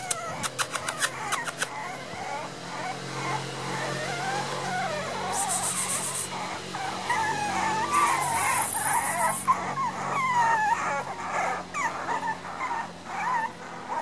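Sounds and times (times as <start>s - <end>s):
puppies whimpering and whining: 0.0s - 14.0s.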